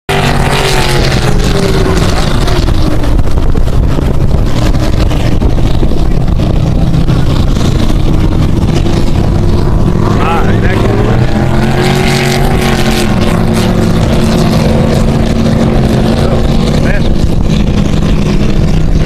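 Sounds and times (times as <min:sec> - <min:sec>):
powerboat engines running: 0:00.1 - 0:19.0.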